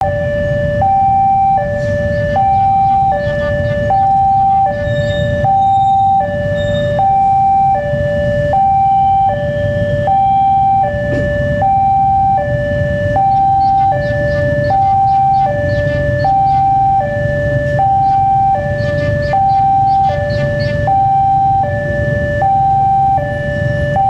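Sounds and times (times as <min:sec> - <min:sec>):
two-tone electronic warning alarm: 0:00.0 - 0:24.0.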